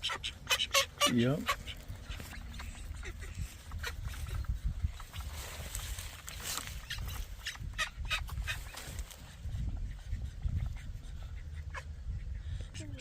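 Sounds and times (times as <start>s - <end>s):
ducks and fowl calling: 0.0s - 13.0s
wind rumbling on microphone: 1.4s - 13.0s.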